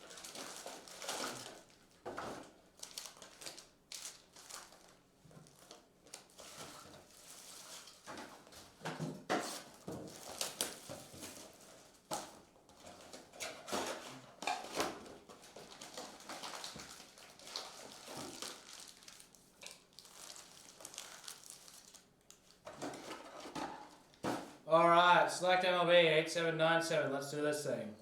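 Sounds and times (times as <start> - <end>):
card packs rustling and crinkling: 0.0 - 24.6.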